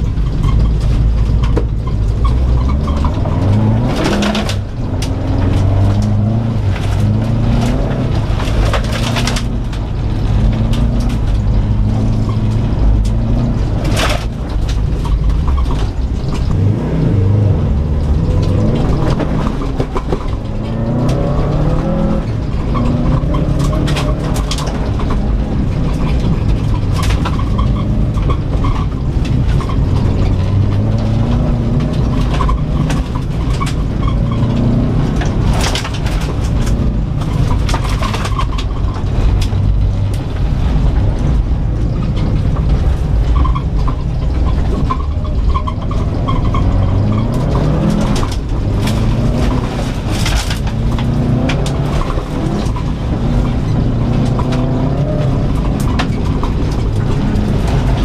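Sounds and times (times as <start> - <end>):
car engine revving: 0.0 - 58.0
road and tyre rumble: 0.0 - 58.0.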